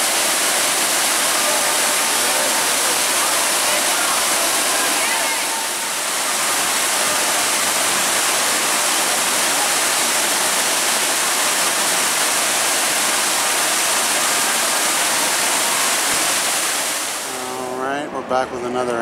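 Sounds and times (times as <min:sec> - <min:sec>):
waterfall pouring: 0:00.0 - 0:17.7.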